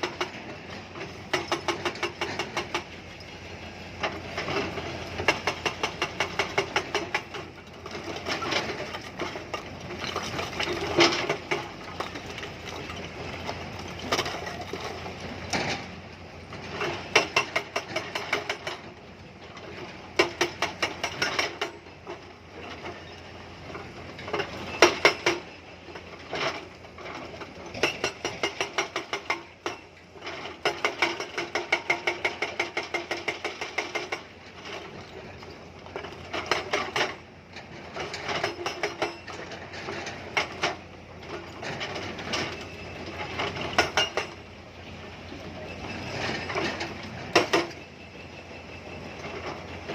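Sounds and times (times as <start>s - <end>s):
hydraulic rock breaker hammering stone: 0.0s - 3.1s, 4.0s - 44.5s, 45.4s - 47.9s
excavator engine running: 0.0s - 49.9s.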